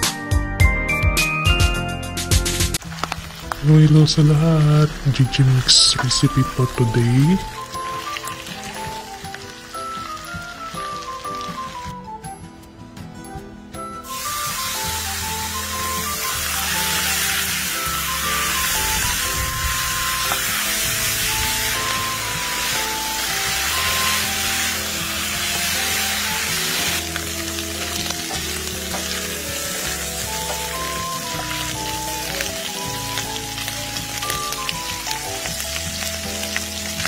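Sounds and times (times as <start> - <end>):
background music: 0.0 - 37.0
pork sizzling in a pan: 2.8 - 12.0, 14.0 - 37.0.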